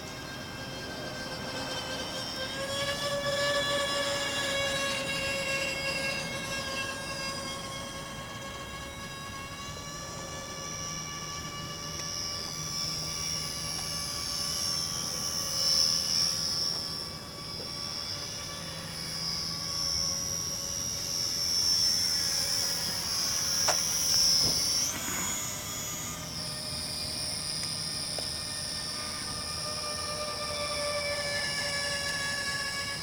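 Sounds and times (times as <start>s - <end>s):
model airplane motor whining: 0.0s - 33.0s.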